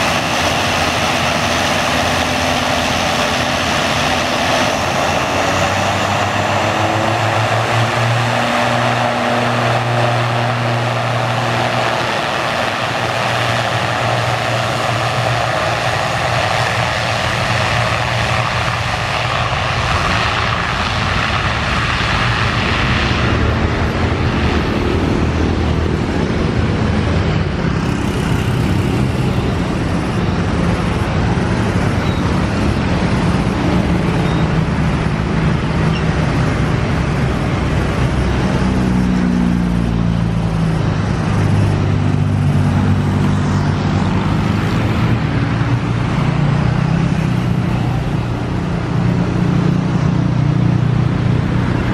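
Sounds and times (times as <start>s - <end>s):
propeller engines droning: 0.0s - 51.9s.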